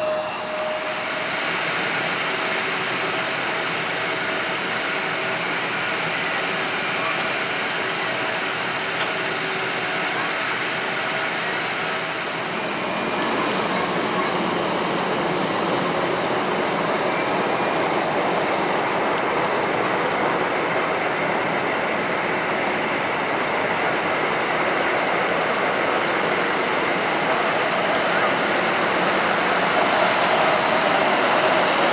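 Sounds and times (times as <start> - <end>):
jet engines idling: 0.0 - 31.9.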